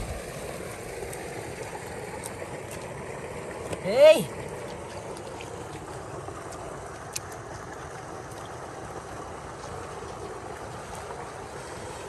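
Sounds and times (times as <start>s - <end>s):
shallow running water: 0.0s - 12.0s
small splashes: 0.0s - 12.0s.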